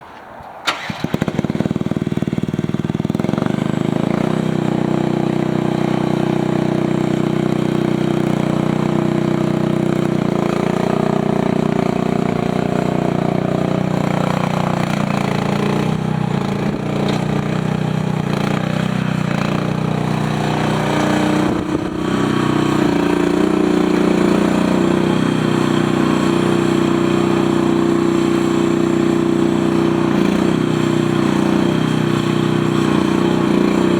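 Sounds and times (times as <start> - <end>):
skid steer engine running: 0.7 - 33.9.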